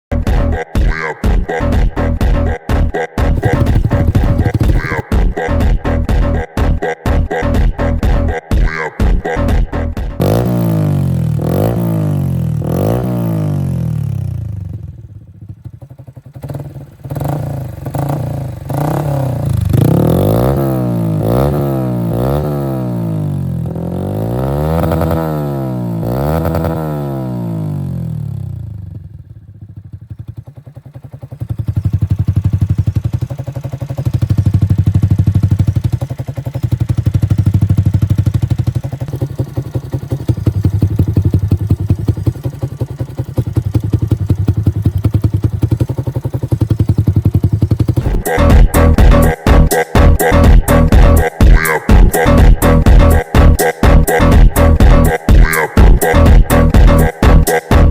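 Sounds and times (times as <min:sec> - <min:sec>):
motorcycle engine revving: 0:03.2 - 0:06.5, 0:09.2 - 0:57.9.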